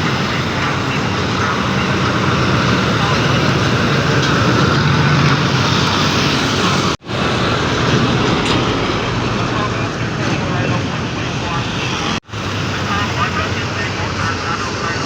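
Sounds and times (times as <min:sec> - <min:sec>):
traffic noise: 0:00.0 - 0:15.0
truck diesel engine humming: 0:00.0 - 0:15.0.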